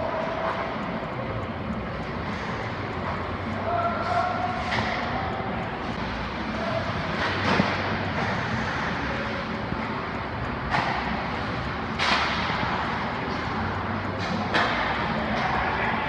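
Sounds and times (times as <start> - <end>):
steady hiss of ice rink: 0.0 - 16.0.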